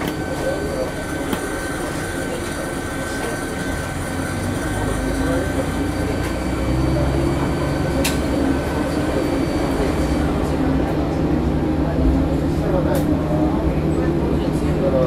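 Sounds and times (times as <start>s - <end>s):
diesel railcar engine revving: 0.0s - 15.0s.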